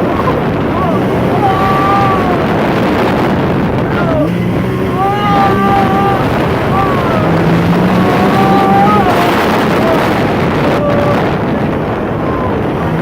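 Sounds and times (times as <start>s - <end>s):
engine running hard: 0.0s - 13.0s
wind on microphone: 0.0s - 13.0s.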